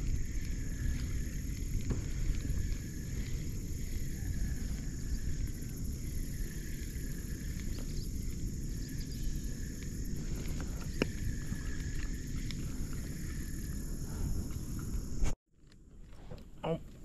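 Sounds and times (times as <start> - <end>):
wind and water rumble on microphone: 0.0 - 17.0.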